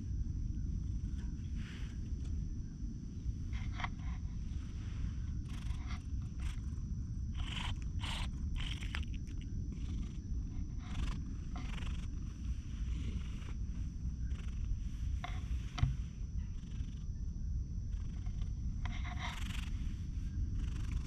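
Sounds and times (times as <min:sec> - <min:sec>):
cat purring: 0:03.4 - 0:21.0.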